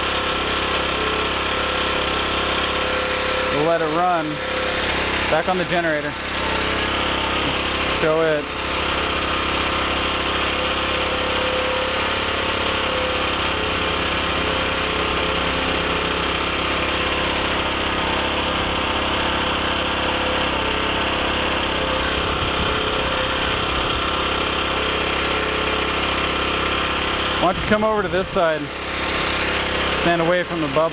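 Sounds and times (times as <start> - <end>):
small generator engine running: 0.0 - 30.9.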